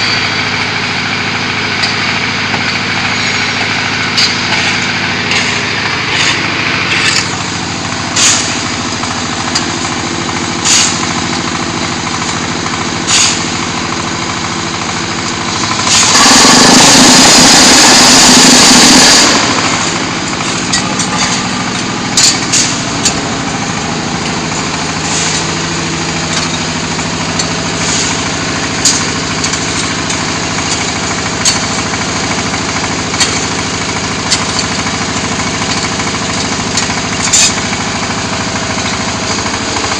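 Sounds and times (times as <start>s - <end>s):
diesel engine running: 0.0s - 39.9s
loud harsh machine noise: 0.0s - 39.9s.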